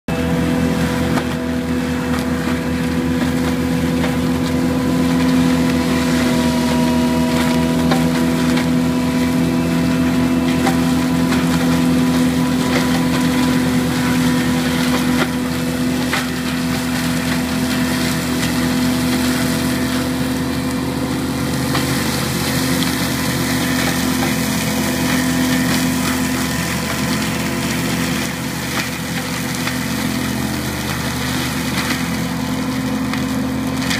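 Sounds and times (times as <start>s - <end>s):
diesel engine running under load: 0.0s - 33.9s
wood cracking in mulcher: 0.1s - 33.9s.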